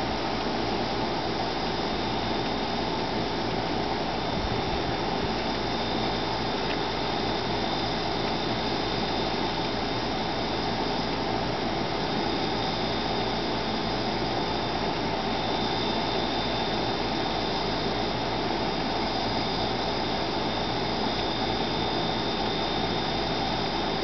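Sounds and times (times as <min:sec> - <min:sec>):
steady hiss-like noise: 0:00.0 - 0:24.0
thin high whine: 0:00.0 - 0:24.0.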